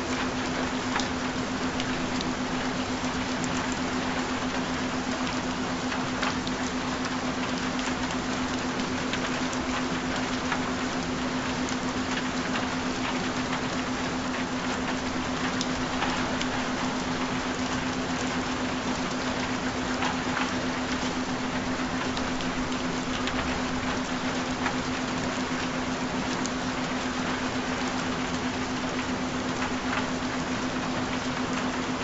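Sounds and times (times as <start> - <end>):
raindrop ticks: 0.0 - 32.0
steady rain: 0.0 - 32.0.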